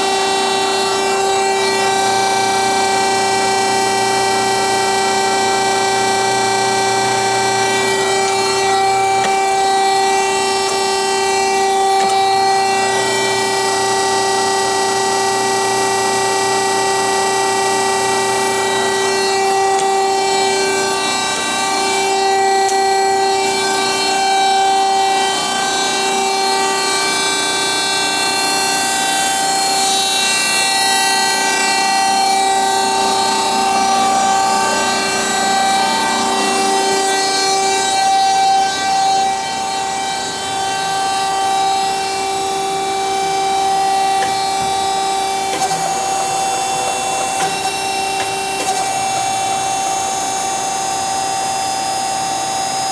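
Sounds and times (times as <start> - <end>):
bandsaw whining: 0.0 - 52.9.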